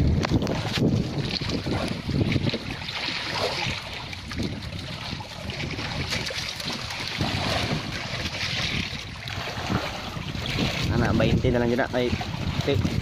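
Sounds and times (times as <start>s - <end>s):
water lapping against boat hull: 0.0s - 13.0s
wind buffeting microphone: 0.0s - 13.0s.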